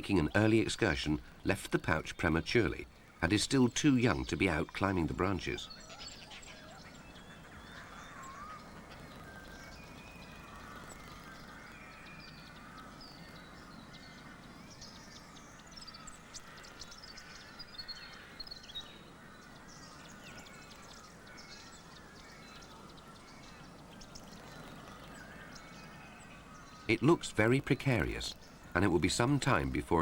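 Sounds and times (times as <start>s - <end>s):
birds chirping and whistling: 0.0s - 30.0s
faint outdoor hiss: 0.0s - 30.0s.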